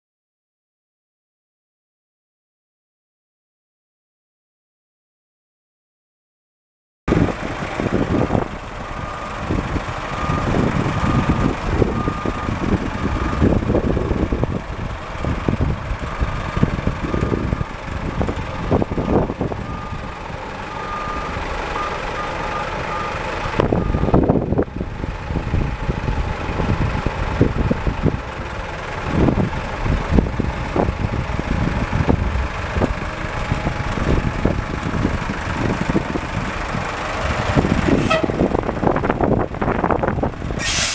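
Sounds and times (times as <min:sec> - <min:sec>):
truck diesel engine running: 0:07.1 - 0:40.9.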